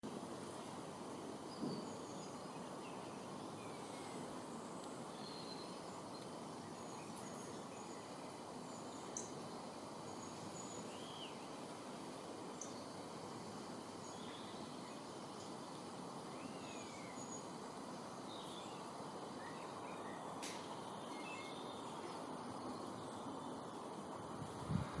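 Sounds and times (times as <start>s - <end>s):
outdoor background noise: 0.0s - 25.0s
small birds chirping: 1.3s - 24.4s.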